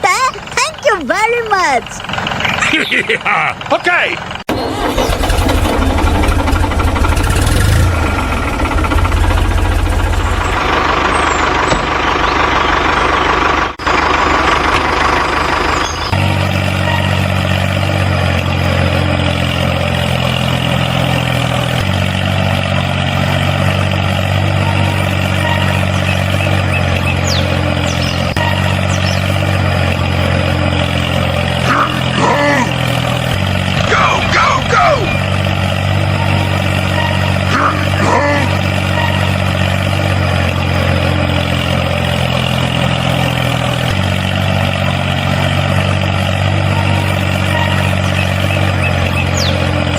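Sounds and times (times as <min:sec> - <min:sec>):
heavy vehicle engine running: 0:00.0 - 0:49.9.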